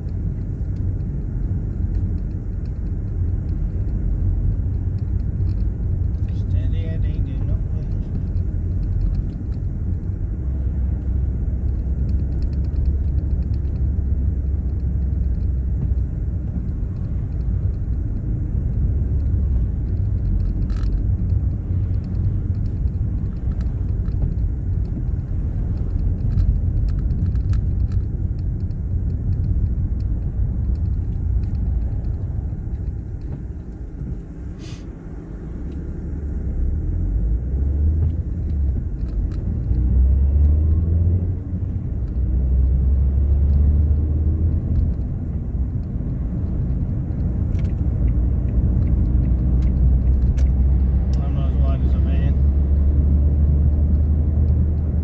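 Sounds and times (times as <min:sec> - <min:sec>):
engine and road noise rumble: 0:00.0 - 0:55.0.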